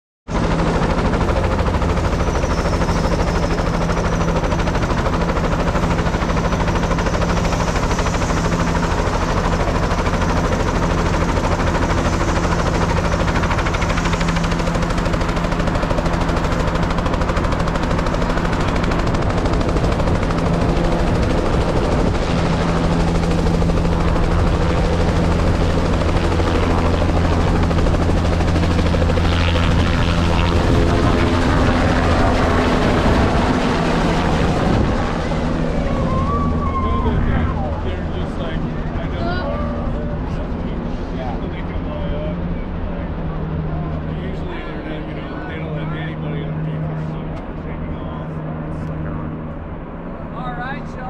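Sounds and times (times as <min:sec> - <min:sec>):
helicopter rotor and engine: 0:00.3 - 0:51.0.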